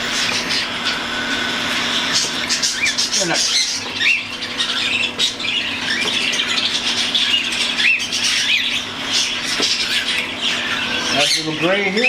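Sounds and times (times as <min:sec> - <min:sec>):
cockatiels chirping and squawking: 0:00.0 - 0:12.0.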